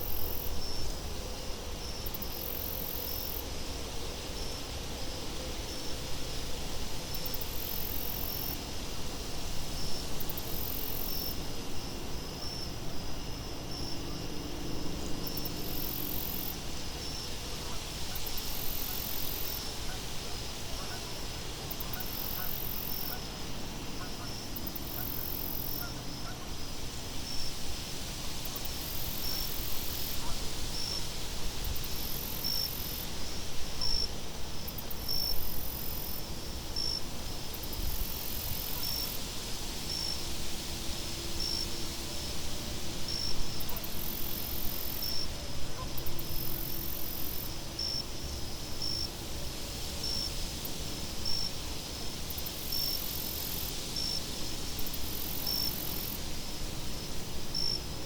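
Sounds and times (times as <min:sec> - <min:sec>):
crickets chirping: 0:00.0 - 0:58.0
wind hiss: 0:00.0 - 0:58.0.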